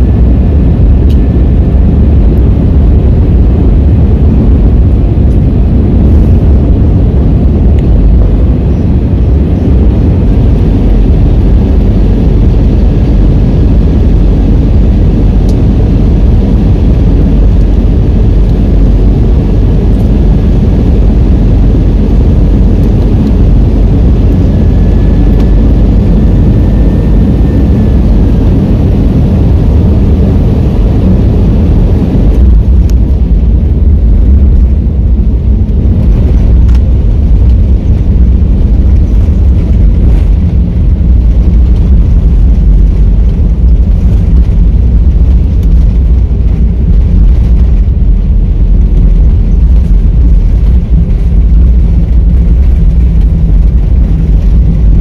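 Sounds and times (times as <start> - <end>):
jet engines and rolling rumble: 0.0 - 55.0.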